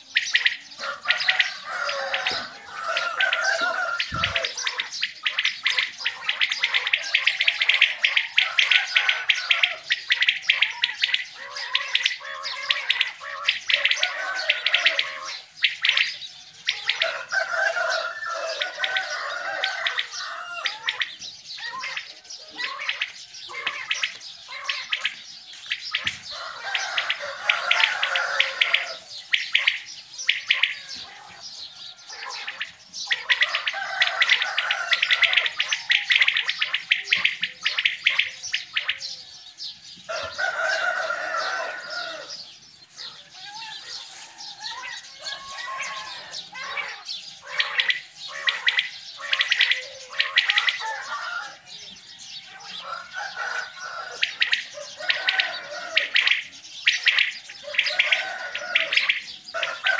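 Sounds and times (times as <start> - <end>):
quails chirping: 0.0 - 59.9.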